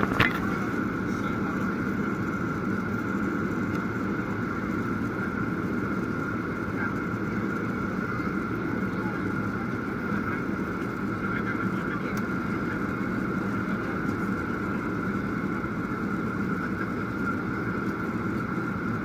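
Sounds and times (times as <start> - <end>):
jet engine drone: 0.0 - 19.0
steady high whine: 0.0 - 19.0.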